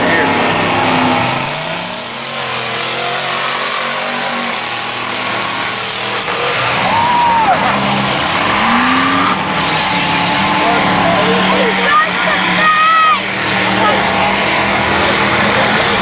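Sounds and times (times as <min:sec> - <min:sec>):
truck engine revving hard: 0:00.0 - 0:16.0.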